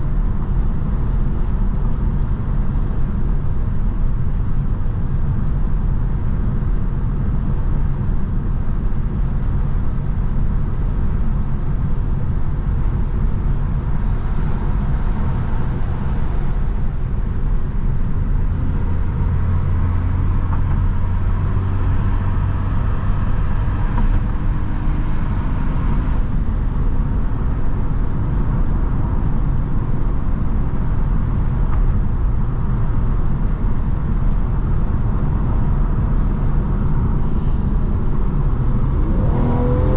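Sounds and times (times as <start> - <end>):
car engine and exhaust drone: 0.0 - 39.9
road and tyre noise: 0.0 - 39.9.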